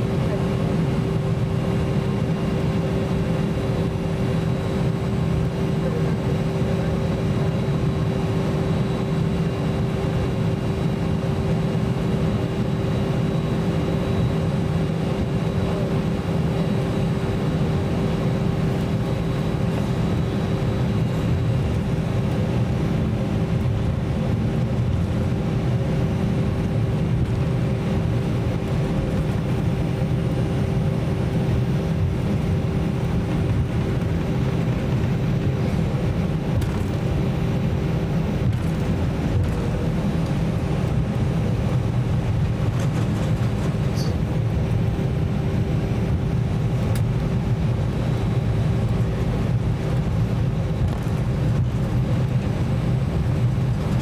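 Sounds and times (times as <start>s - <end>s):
low cabin rumble: 0.0s - 54.0s.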